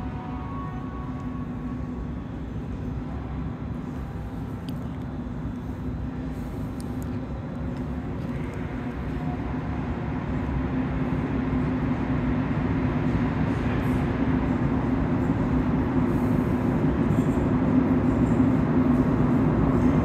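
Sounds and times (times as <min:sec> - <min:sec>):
metro train rumble: 0:00.0 - 0:20.0
steady low hum: 0:00.0 - 0:20.0.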